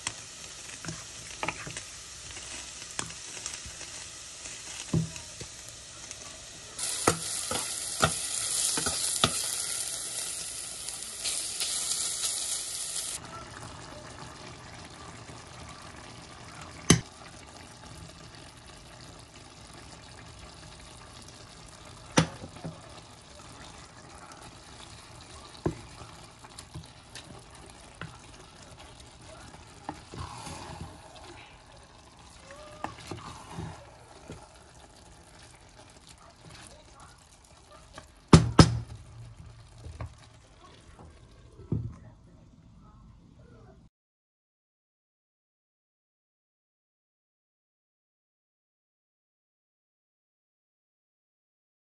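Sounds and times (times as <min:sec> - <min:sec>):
pot simmering with sizzling hiss: 0:00.0 - 0:43.5.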